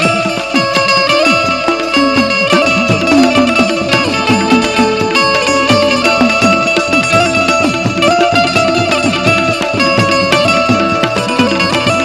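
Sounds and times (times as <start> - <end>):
hand drums: 0.0 - 12.0
melody line: 0.0 - 12.0
plucked strings: 0.0 - 12.0.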